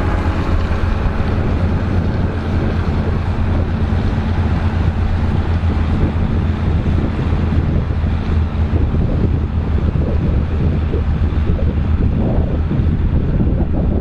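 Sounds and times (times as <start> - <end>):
tractor engine running: 0.0 - 14.0
wind buffeting microphone: 0.0 - 14.0.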